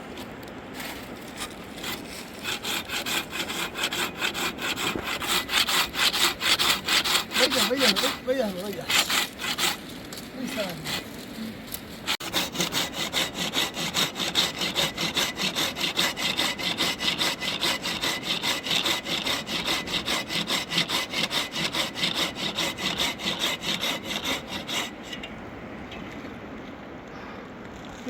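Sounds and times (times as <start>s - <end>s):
hand saw cutting wood: 1.3s - 11.2s, 12.0s - 25.3s.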